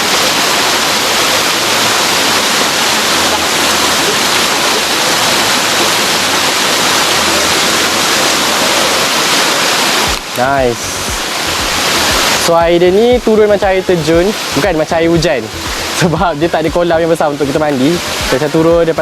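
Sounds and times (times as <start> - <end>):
waterfall pouring onto rocks: 0.0 - 19.0.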